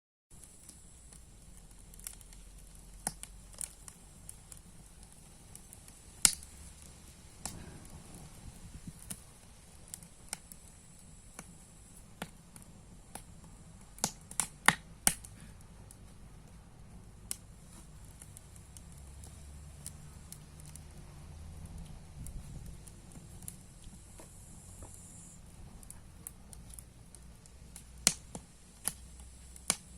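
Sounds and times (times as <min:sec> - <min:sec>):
campfire crackling: 0:00.3 - 0:29.9
faint steady hiss: 0:00.3 - 0:29.9.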